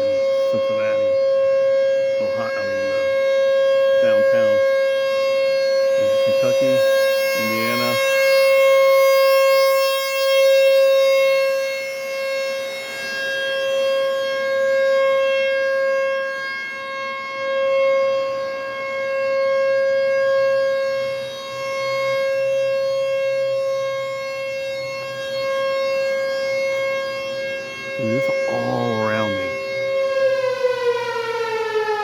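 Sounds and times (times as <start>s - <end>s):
outdoor warning siren: 0.0s - 32.0s.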